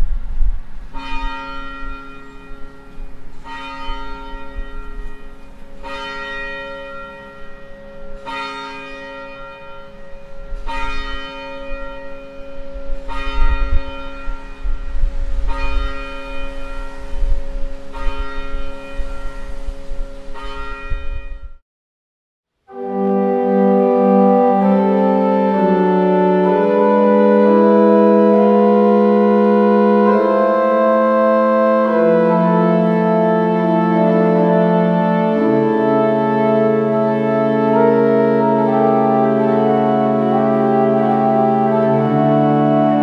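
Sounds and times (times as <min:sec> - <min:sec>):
church bell tolling: 0:00.9 - 0:21.6, 0:22.7 - 0:43.0.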